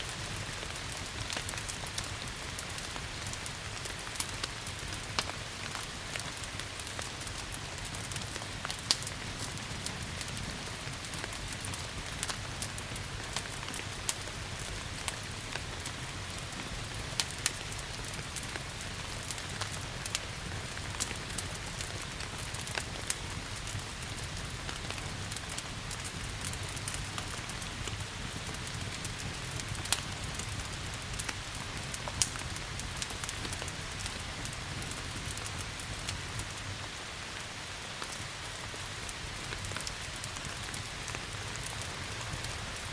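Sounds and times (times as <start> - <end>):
rain hiss: 0.0 - 42.9
wood fire crackling: 0.0 - 42.9.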